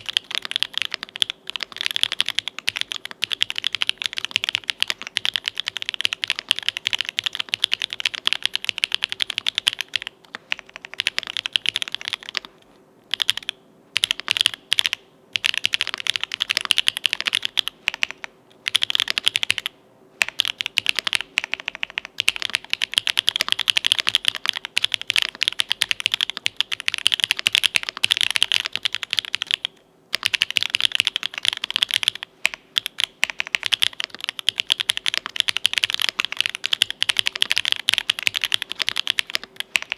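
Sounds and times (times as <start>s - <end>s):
fast typing on mechanical keyboard: 0.0s - 12.5s, 13.1s - 39.9s.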